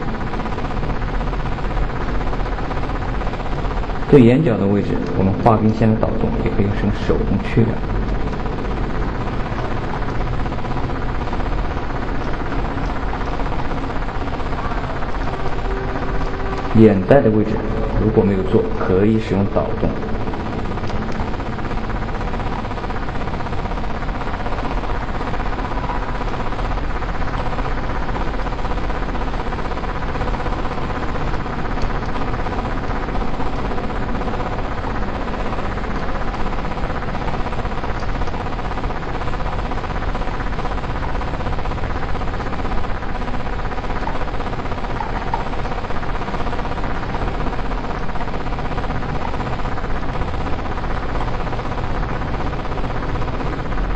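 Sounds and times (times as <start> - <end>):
milling machine humming and whirring: 0.0 - 53.9.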